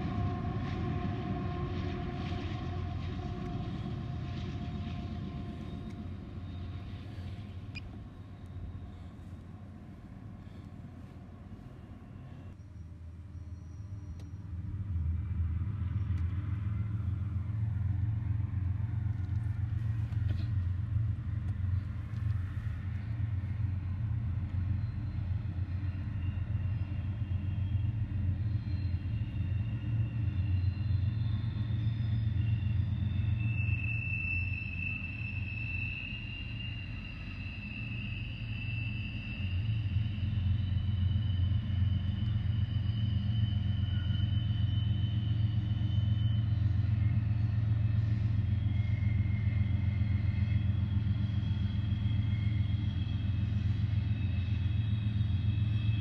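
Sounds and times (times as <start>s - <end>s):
freight train rumbling: 0.0s - 56.0s
train wheels squealing: 0.0s - 56.0s.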